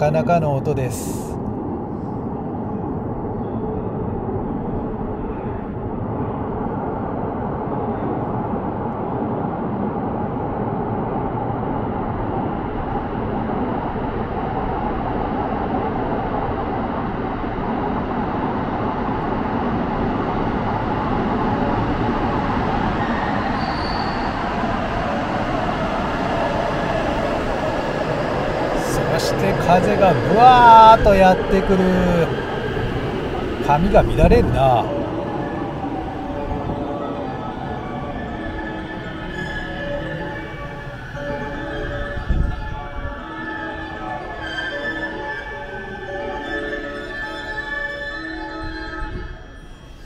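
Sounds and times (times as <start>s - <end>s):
high whine of train: 0.0s - 50.0s
train rumble in tunnel: 0.0s - 50.0s.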